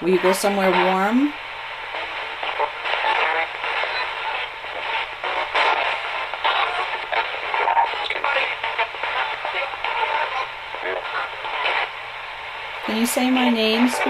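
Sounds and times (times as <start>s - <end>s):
radio static bursts: 0.0s - 14.0s
radio voice and music snippets: 0.0s - 14.0s.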